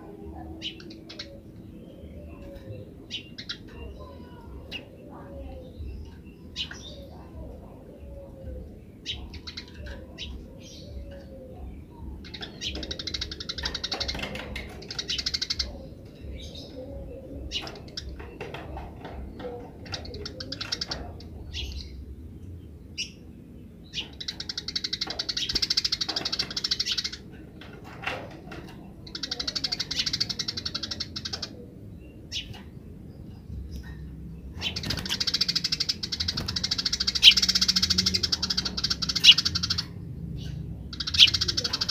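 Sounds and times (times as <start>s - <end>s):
sparrows chirping and chattering: 0.0s - 41.9s.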